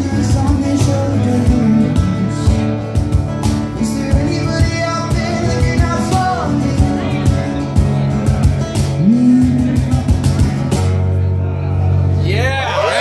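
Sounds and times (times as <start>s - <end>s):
acoustic rock band playing: 0.0s - 13.0s
guitars strummed: 0.0s - 13.0s.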